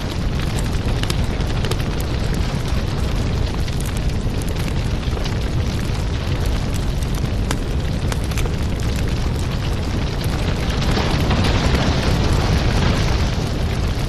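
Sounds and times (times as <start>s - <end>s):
fire crackling and popping: 0.0s - 14.0s
low roar of flames: 0.0s - 14.0s.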